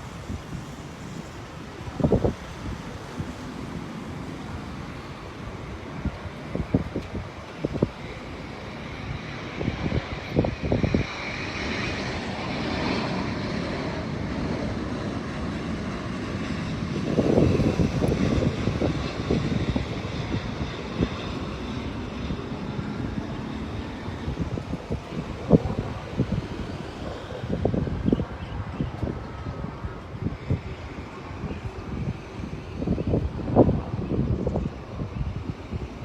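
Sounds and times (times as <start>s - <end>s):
jet airliner engines passing: 0.0s - 36.0s.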